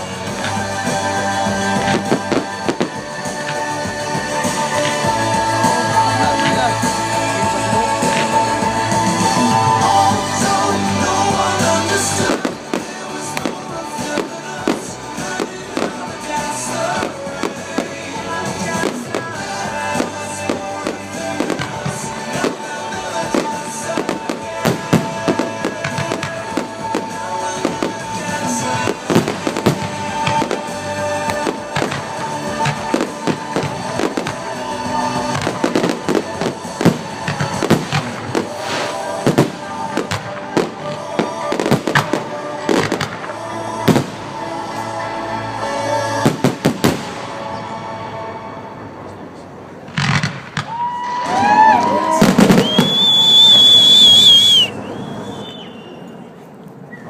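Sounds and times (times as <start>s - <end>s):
fireworks bursting and crackling: 0.0s - 47.6s, 49.8s - 57.0s
music: 0.0s - 54.9s.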